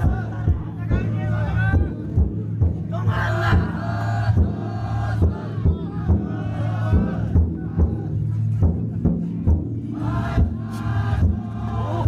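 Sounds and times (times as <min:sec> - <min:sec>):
crowd chanting and shouting: 0:00.0 - 0:12.0
drum beaten in steady rhythm: 0:00.0 - 0:12.0.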